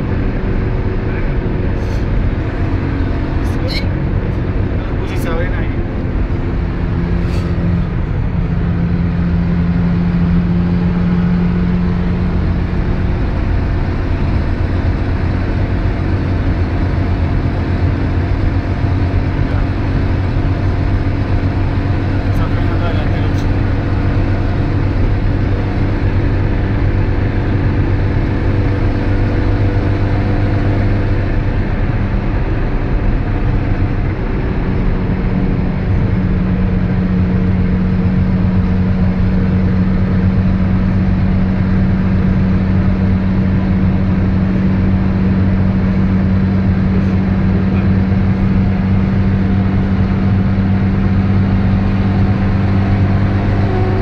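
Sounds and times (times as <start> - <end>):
car engine drone: 0.0 - 54.0
road noise: 0.0 - 54.0.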